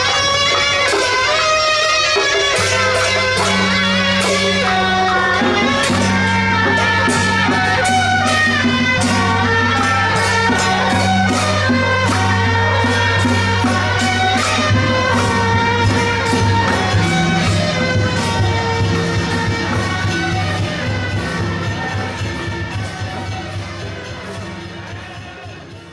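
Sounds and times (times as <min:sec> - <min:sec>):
music with steady beat: 0:00.2 - 0:25.9.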